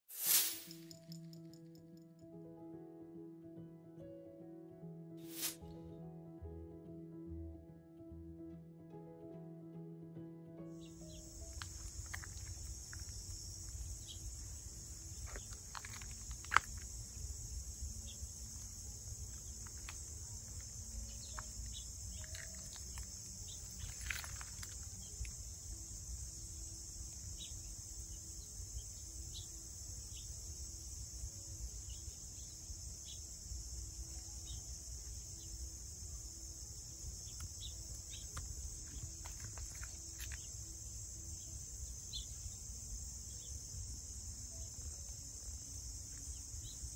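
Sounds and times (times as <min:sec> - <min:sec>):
insect chorus: 0:00.2 - 0:01.8, 0:10.8 - 0:46.9.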